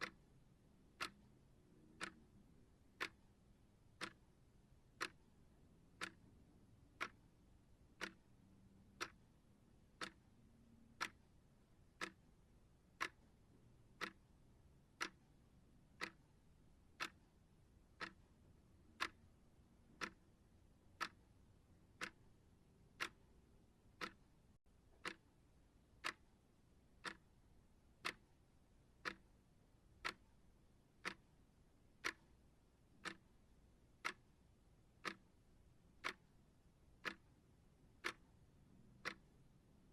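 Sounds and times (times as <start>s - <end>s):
clock ticking: 0.0s - 3.3s, 3.9s - 20.3s, 20.9s - 25.4s, 26.0s - 26.4s, 27.0s - 28.4s, 29.0s - 29.4s, 30.0s - 30.4s, 31.0s - 39.9s.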